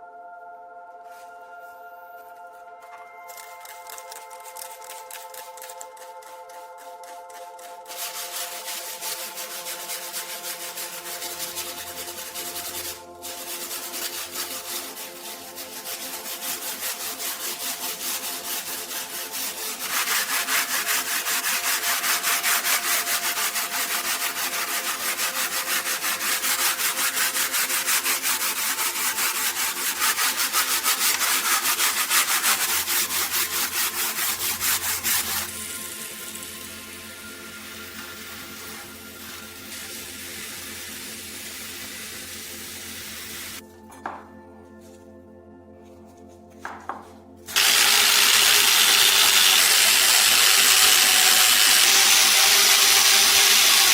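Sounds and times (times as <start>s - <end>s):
hand sanding strokes: 3.8s - 43.6s, 47.5s - 53.9s.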